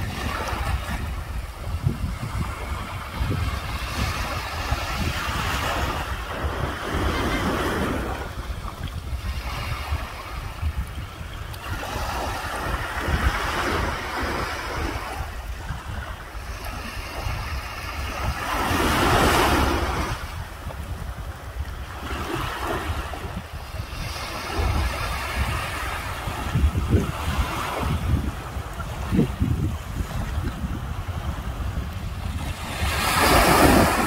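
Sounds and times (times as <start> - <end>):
small sea waves lapping: 0.0 - 34.0
wind buffeting microphone: 0.0 - 34.0.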